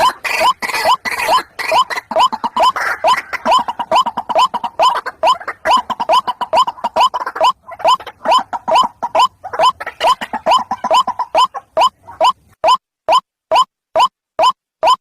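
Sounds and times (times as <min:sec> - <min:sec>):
waterhen calling: 0:00.0 - 0:12.6.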